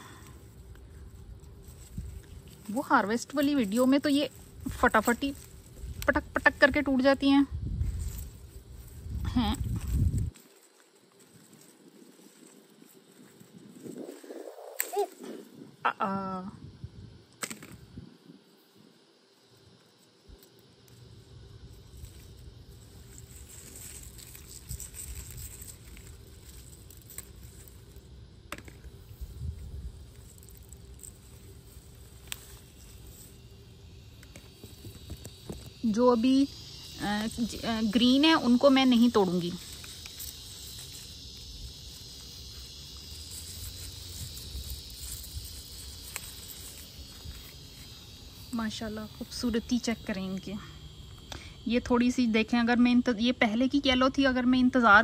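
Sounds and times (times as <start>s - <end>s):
leaves and stems rustling: 0.0s - 16.5s, 17.2s - 55.0s
insects chirring: 0.0s - 55.0s.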